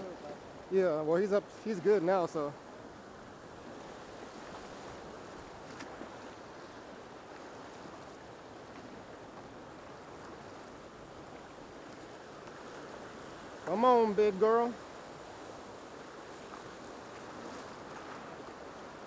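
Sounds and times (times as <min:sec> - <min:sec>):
small waves breaking: 0:00.0 - 0:19.0.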